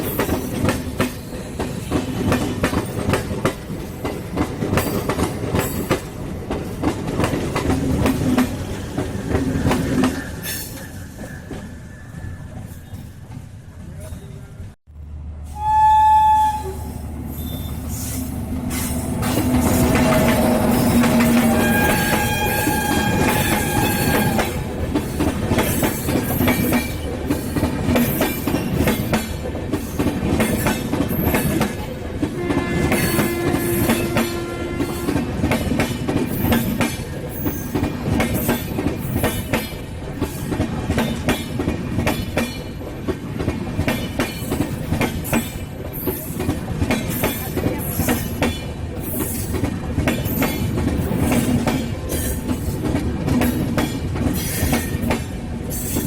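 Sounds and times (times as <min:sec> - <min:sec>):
train wheels clacking over rails: 0:00.0 - 0:13.6, 0:17.2 - 0:56.0.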